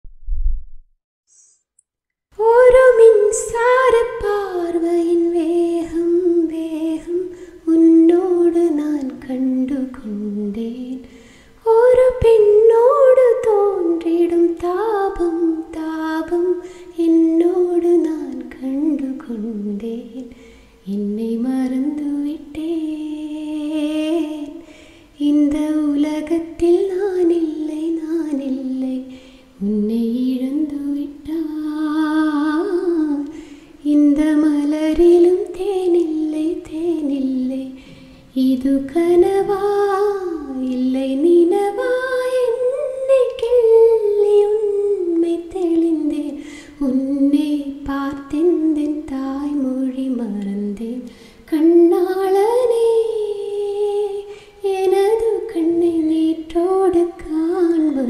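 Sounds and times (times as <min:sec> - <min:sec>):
woman singing unaccompanied: 0:02.4 - 0:24.6, 0:25.2 - 0:58.0.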